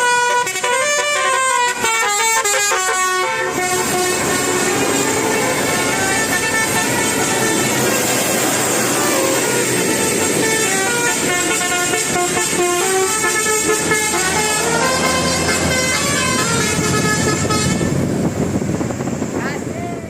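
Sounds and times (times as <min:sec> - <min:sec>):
bus melody horn playing a tune: 0:00.0 - 0:18.6.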